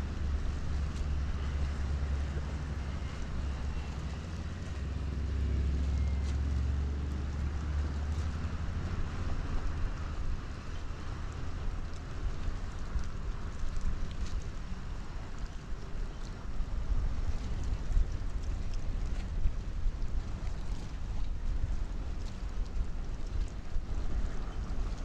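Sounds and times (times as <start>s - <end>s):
tugboat engine rumble: 0.0s - 25.0s
wind: 0.0s - 25.0s.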